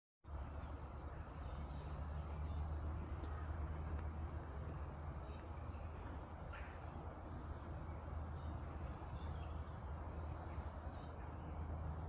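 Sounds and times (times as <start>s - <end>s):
small songbirds chirping: 0.3s - 12.0s.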